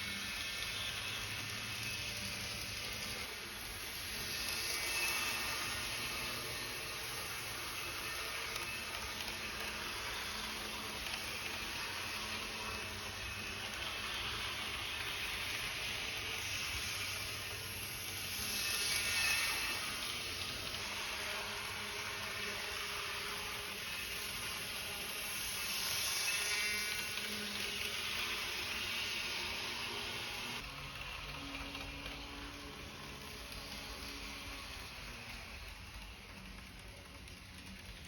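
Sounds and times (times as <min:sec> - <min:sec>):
model trains whirring on track: 0:00.0 - 0:38.0.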